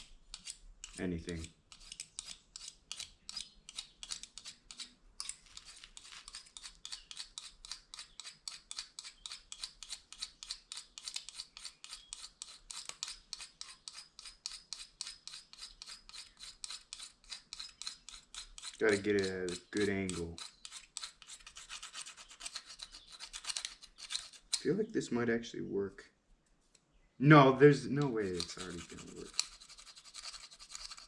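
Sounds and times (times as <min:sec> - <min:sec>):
plastic fork scraping plastic spoon: 0:00.0 - 0:24.7, 0:28.2 - 0:31.0.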